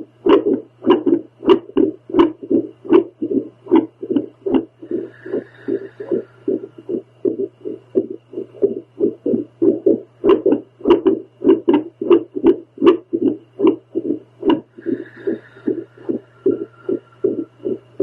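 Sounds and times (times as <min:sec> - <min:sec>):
low steady hum: 0:00.0 - 0:18.0
whooshing heartbeat pulses: 0:00.0 - 0:18.0.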